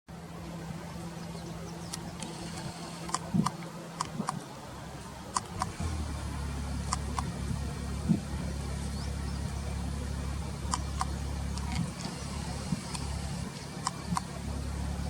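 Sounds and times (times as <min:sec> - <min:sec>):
steady low hum: 0:00.1 - 0:15.0
vehicle engine: 0:00.1 - 0:15.0.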